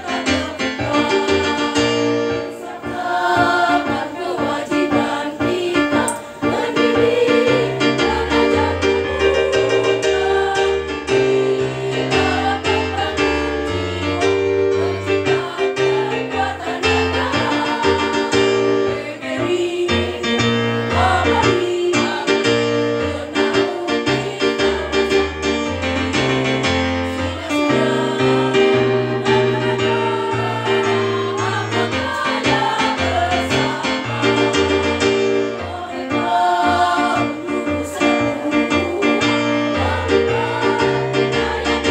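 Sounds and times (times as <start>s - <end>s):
women's choir singing: 0.0s - 41.9s.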